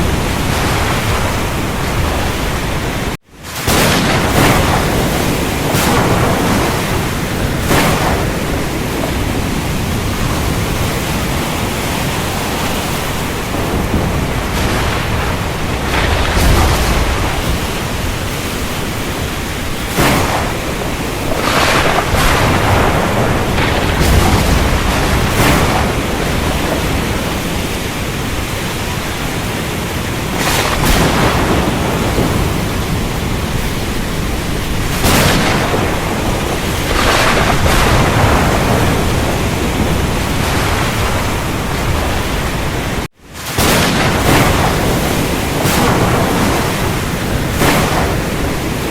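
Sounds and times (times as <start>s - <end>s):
heavy rain hiss: 0.0s - 48.9s
rolling thunder rumbles: 0.0s - 48.9s
thunder cracks: 0.0s - 48.9s.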